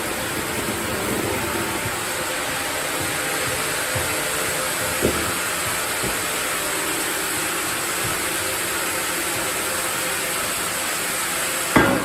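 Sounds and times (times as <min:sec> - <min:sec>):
sawmill saw running: 0:00.0 - 0:12.0.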